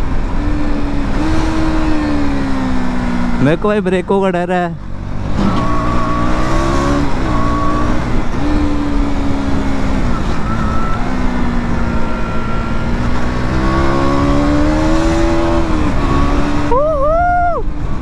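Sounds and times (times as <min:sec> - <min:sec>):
motorcycle engine revving: 0:00.0 - 0:03.6, 0:04.8 - 0:16.9.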